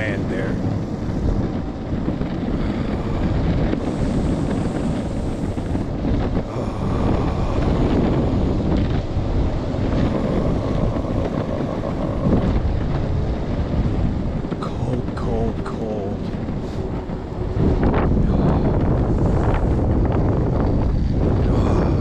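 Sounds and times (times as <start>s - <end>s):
wind buffeting microphone: 0.0s - 22.0s
electric skateboard rolling: 0.6s - 14.6s, 16.3s - 22.0s.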